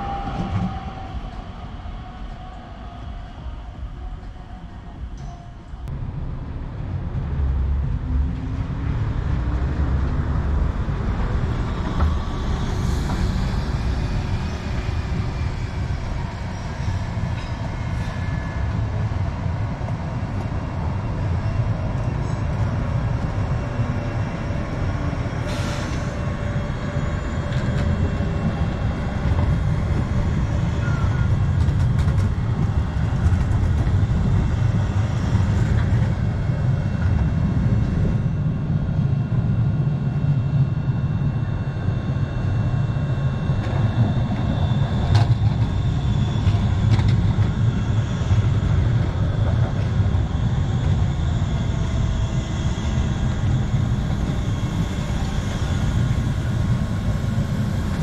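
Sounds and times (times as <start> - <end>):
tram rumbling on rails: 0.0 - 58.0.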